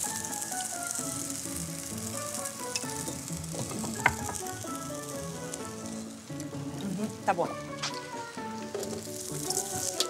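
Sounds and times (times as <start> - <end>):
food sizzling in a pan: 0.0 - 10.0
light background music: 0.0 - 10.0.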